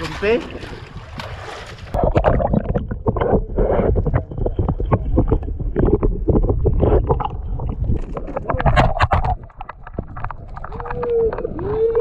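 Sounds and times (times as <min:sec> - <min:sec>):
water sloshing underwater: 0:00.0 - 0:12.0.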